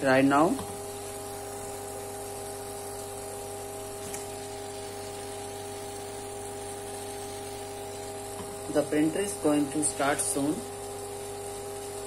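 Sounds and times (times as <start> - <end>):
printer steady pitched hum: 0.0 - 12.0.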